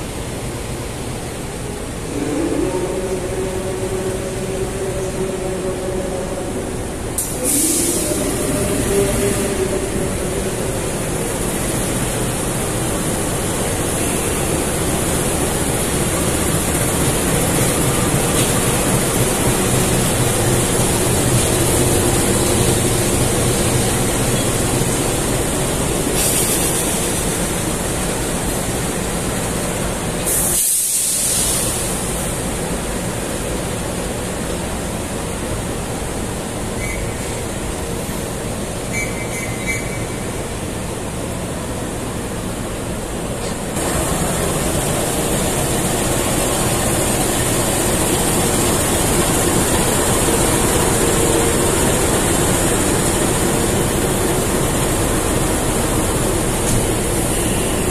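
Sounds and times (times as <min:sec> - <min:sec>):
locomotive engine rumbling: 0:00.0 - 0:30.6, 0:31.4 - 0:57.9.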